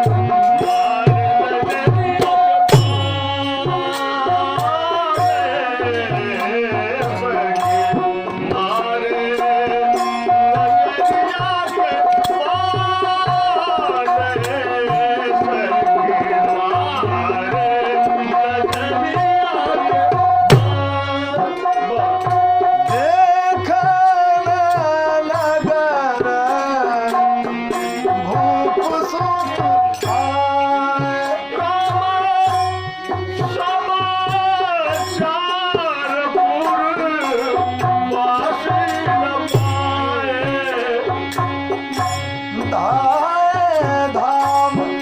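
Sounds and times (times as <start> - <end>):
ornamented melody line: 0.0 - 45.0
tabla rhythm: 0.0 - 45.0.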